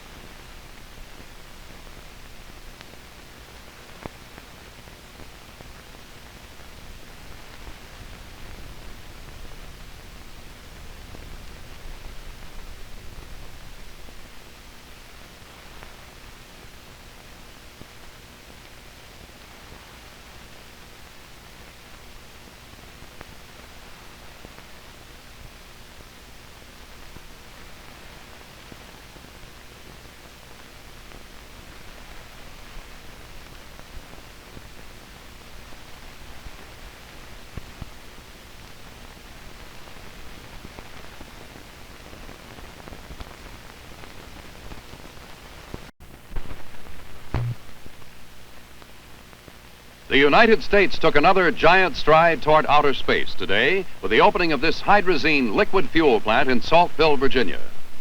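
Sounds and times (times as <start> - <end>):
faint low hum: 0.0 - 58.0
steady hiss: 0.0 - 58.0.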